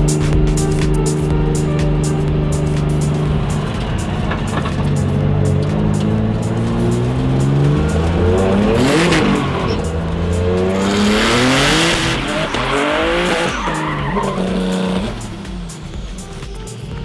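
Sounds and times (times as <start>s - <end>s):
car engine revving: 0.0s - 17.0s
tyres squealing: 0.8s - 16.2s.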